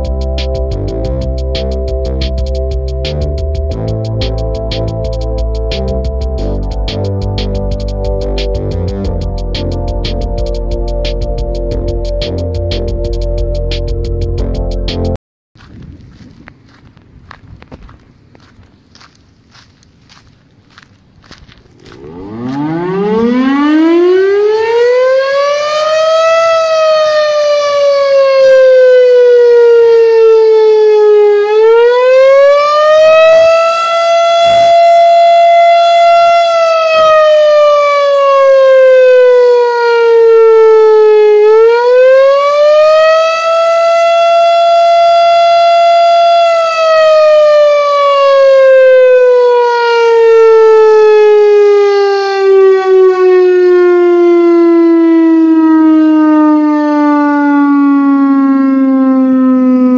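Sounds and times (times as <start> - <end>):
outdoor warning siren wailing: 0.0 - 13.8, 21.2 - 59.9.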